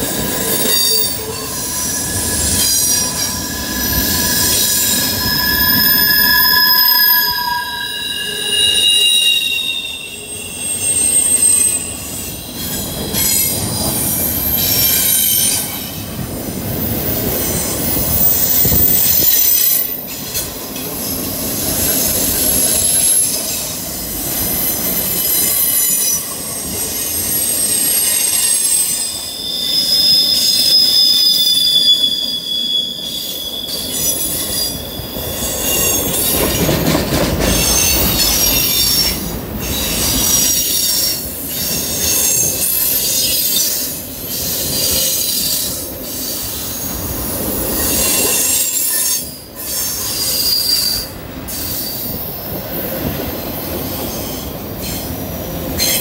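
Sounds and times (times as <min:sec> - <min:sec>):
train cars rumbling and clattering: 0:00.0 - 0:56.0
train wheels squealing: 0:00.0 - 0:56.0.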